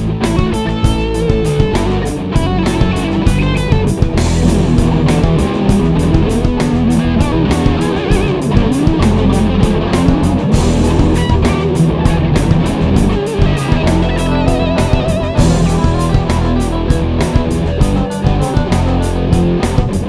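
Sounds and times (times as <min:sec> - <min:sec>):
guitars strummed and picked: 0:00.0 - 0:20.0
steady drum beat: 0:00.0 - 0:20.0.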